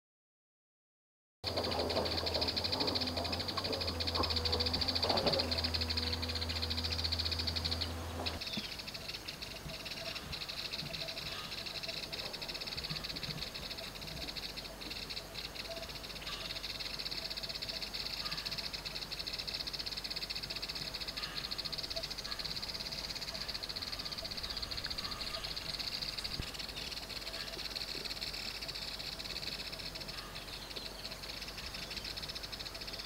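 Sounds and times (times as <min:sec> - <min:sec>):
high insect chorus: 0:01.5 - 0:33.0.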